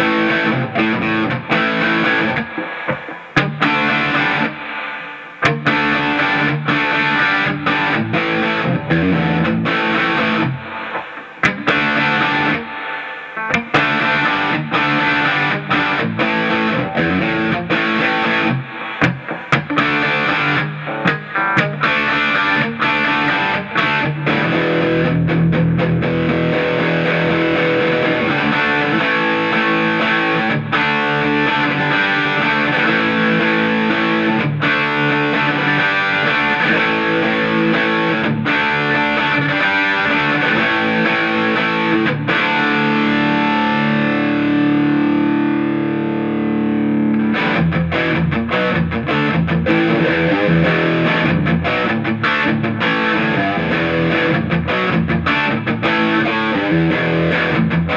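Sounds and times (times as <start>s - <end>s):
distorted electric guitar: 0.0s - 57.9s.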